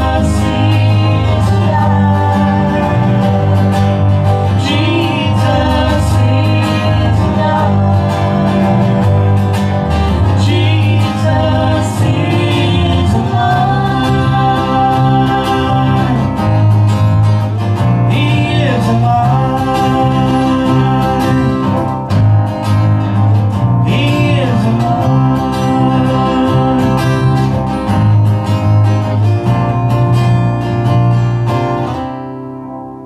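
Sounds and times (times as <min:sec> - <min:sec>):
person singing lead vocal: 0:00.0 - 0:22.4, 0:23.0 - 0:28.2
acoustic guitars strumming: 0:00.0 - 0:33.0.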